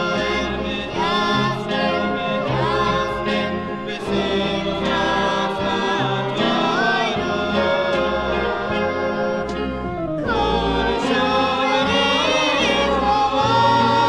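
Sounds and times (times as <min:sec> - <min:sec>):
choir singing: 0:00.0 - 0:14.0
orchestral accompaniment: 0:00.0 - 0:14.0.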